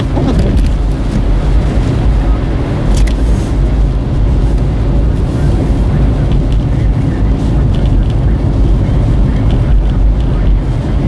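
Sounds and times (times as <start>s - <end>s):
tyre and road noise: 0.0s - 11.0s
wind: 0.0s - 11.0s.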